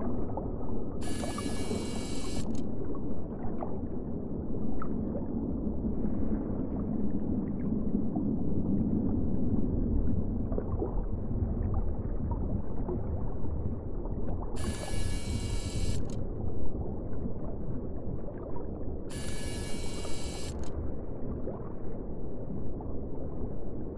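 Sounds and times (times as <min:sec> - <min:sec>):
muffled underwater rumble: 0:00.0 - 0:23.9.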